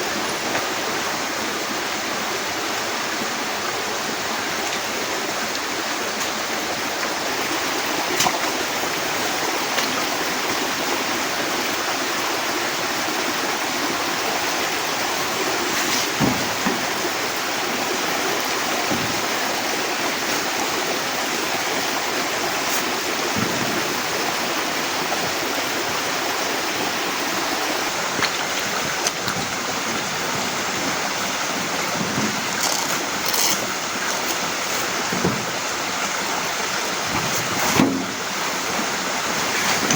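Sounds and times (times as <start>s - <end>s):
heavy rain falling: 3.9s - 39.9s.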